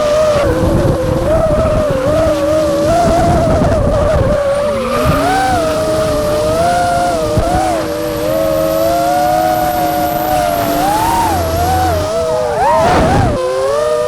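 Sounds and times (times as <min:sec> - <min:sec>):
car tyres squealing: 0:00.0 - 0:14.0
engine low rumble: 0:00.0 - 0:14.0.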